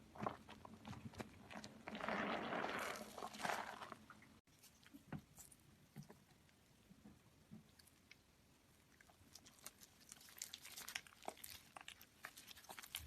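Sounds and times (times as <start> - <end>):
wet soap squishing in hand: 0.0 - 13.0.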